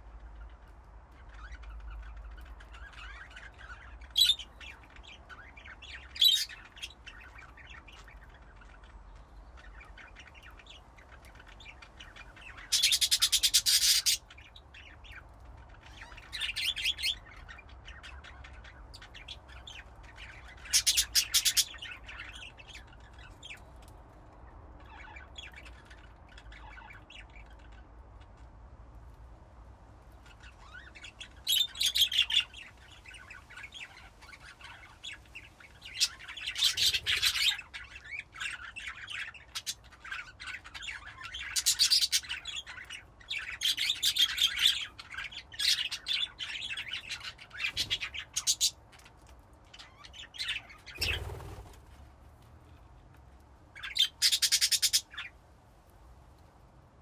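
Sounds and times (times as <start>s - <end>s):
budgerigars chirping and chattering: 0.2s - 23.7s, 24.8s - 28.4s, 30.1s - 51.8s, 53.7s - 55.4s.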